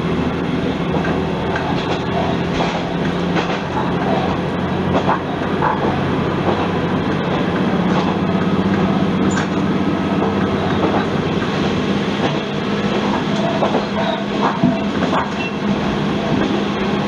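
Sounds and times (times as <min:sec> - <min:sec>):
diesel railcar engine drone: 0:00.0 - 0:17.0
wheels rumbling on track: 0:00.0 - 0:17.0
wheels clicking over rail joints: 0:00.6 - 0:17.0.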